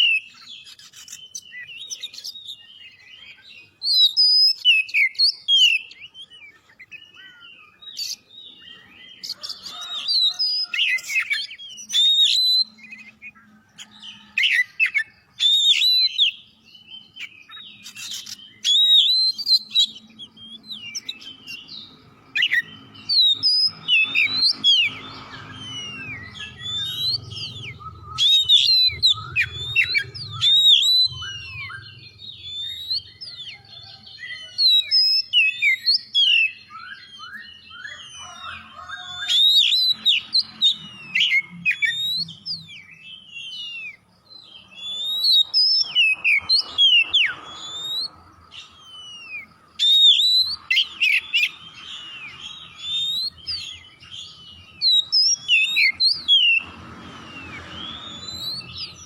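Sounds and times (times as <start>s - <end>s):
songbird singing whistled notes: 0.0s - 59.0s.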